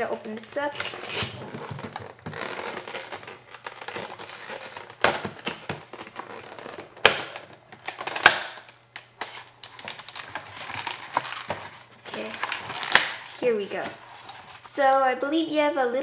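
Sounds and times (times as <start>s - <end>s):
sharp plastic cracks: 0.0s - 14.0s
plastic packaging crinkling: 0.0s - 15.0s.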